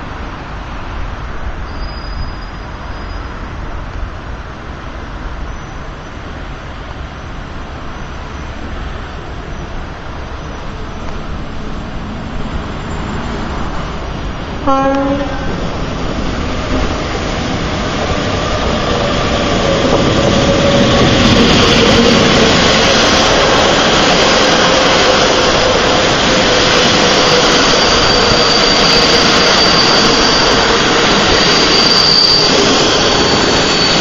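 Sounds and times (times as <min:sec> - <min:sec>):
train wheels rumbling on rail: 0:00.0 - 0:34.0
high-pitched train squeal: 0:01.6 - 0:03.6, 0:05.4 - 0:06.4, 0:07.1 - 0:34.0.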